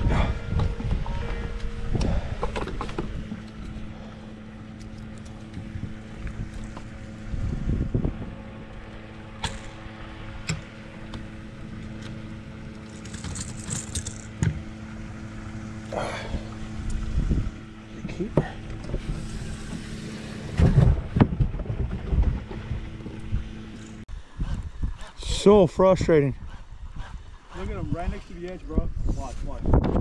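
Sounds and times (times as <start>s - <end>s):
boat motor humming: 0.0s - 28.7s.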